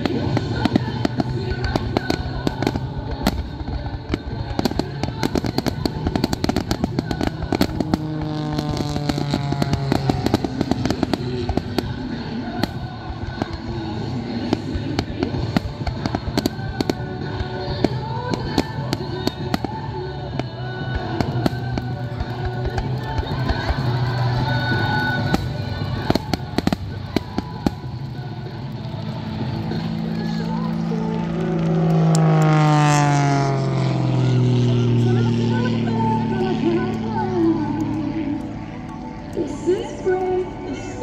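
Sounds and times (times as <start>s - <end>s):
fireworks popping and banging: 0.0s - 33.0s
music playing: 0.0s - 33.0s, 34.8s - 41.0s.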